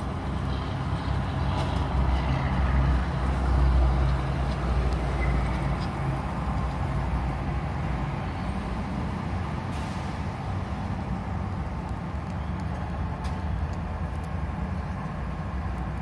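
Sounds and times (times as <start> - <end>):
car engine rumble: 0.0 - 16.0
road traffic passing: 0.0 - 16.0.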